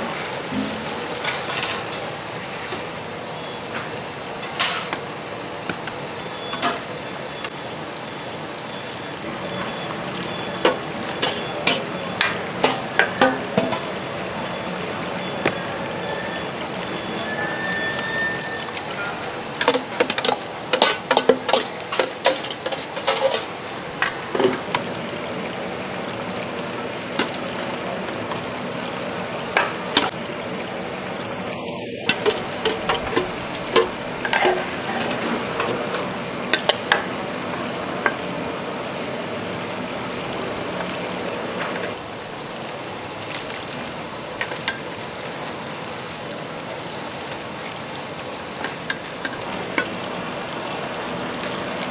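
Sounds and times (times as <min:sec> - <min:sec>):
broth simmering with a hiss: 0:00.0 - 0:51.9.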